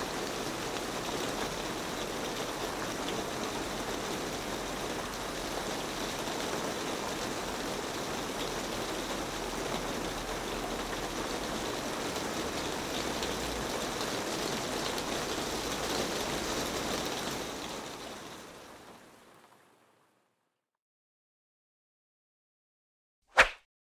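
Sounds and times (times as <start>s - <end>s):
rain on a metal roof: 0.0s - 20.2s.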